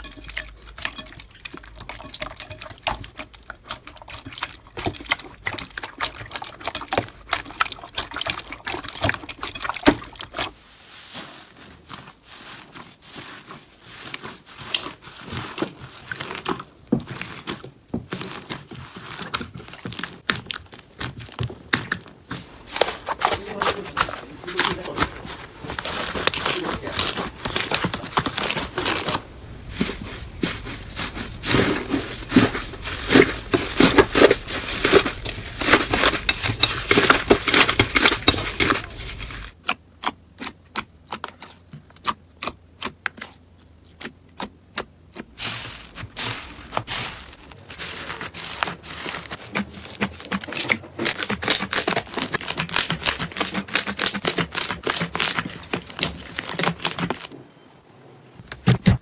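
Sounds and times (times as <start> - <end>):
slime squishing and crackling: 0.0 - 39.7, 40.4 - 57.4.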